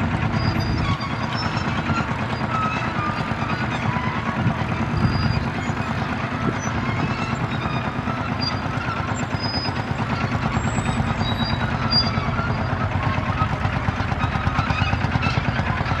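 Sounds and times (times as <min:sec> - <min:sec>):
tractor engines chugging: 0:00.0 - 0:16.0.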